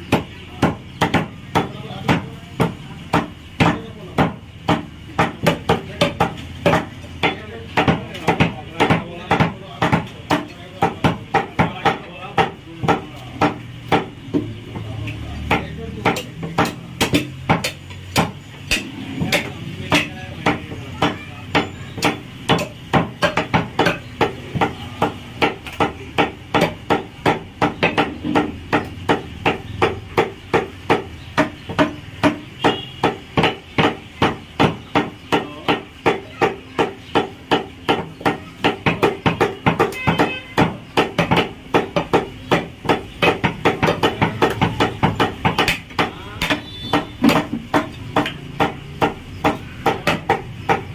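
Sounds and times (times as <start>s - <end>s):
cleaver chopping meat on wooden block: 0.0s - 50.9s.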